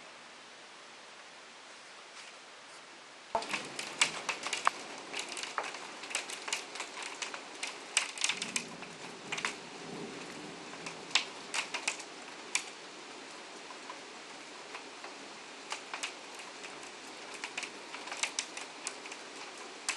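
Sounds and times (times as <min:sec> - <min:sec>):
heavy rain hiss: 0:00.0 - 0:19.9
raindrops striking hard surface: 0:03.3 - 0:19.9.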